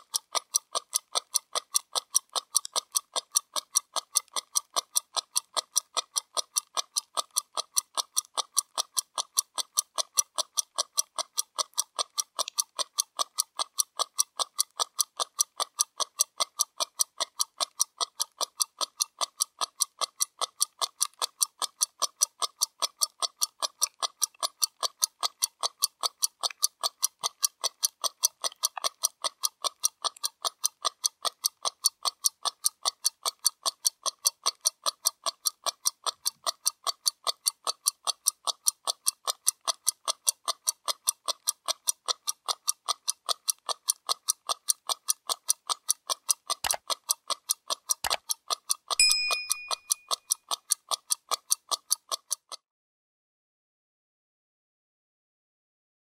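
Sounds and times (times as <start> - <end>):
pocket watch ticking: 0.0 - 52.7.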